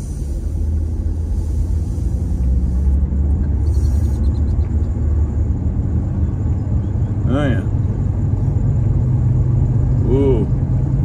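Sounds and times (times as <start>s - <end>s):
pickup truck engine rumble: 0.0s - 11.0s
road noise: 0.0s - 11.0s.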